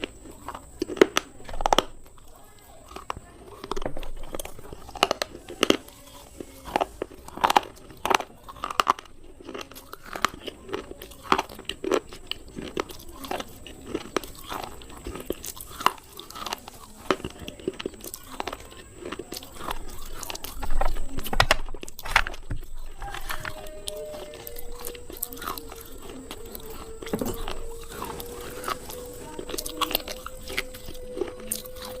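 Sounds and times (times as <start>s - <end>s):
slate pencils being chewed: 0.0s - 32.0s.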